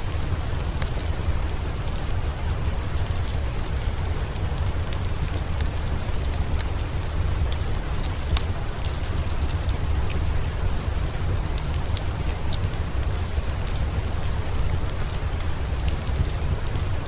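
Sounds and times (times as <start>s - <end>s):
rain hiss: 0.0s - 17.0s
wood fire crackling: 0.0s - 17.0s.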